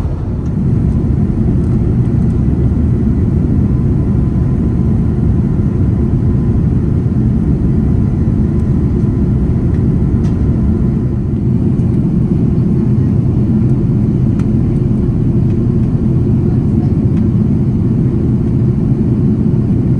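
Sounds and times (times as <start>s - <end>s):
airliner jet engine rumble in cabin: 0.0s - 19.9s.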